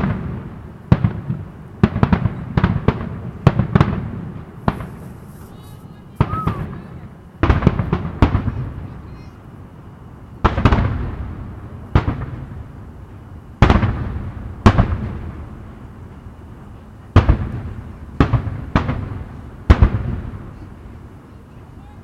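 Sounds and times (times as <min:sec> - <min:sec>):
firework shells booming: 0:00.0 - 0:21.2.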